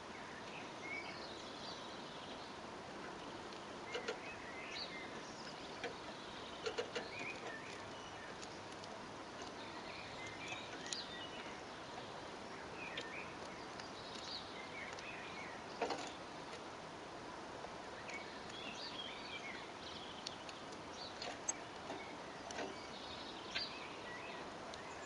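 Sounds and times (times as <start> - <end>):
small birds chirping: 0.0 - 25.0
steady background hiss: 0.0 - 25.0.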